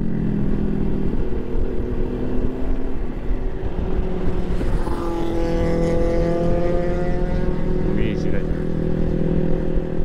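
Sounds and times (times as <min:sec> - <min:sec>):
road rumble: 0:00.0 - 0:10.0
scooter engine drone: 0:00.0 - 0:10.0
wind on microphone: 0:00.0 - 0:10.0.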